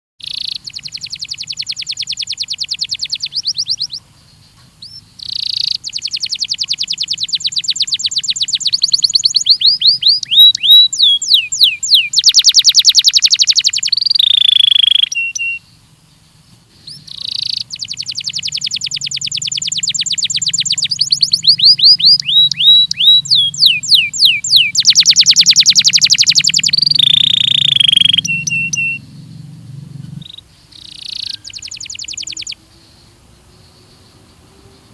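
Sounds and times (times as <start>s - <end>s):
canary singing trills: 0.2s - 34.9s
faint low hum: 0.2s - 34.9s.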